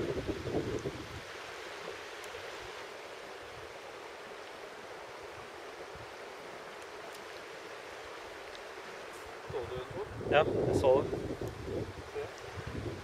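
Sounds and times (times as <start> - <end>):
river running over stones: 0.0 - 13.0.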